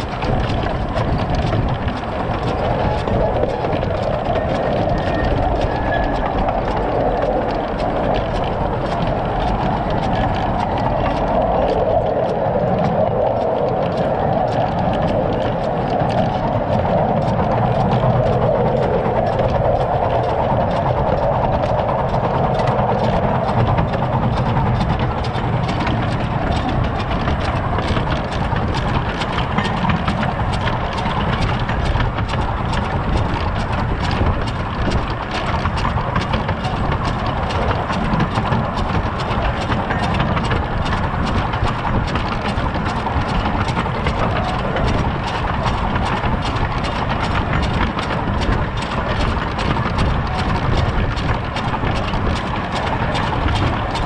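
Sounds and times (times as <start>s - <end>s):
miniature steam train rumbling: 0.0s - 54.0s
wheels clicking over rail joints: 0.0s - 54.0s.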